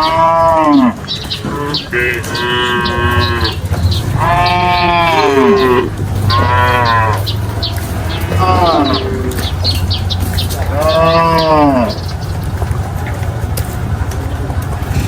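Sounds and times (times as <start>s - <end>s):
cattle mooing: 0.0s - 12.6s.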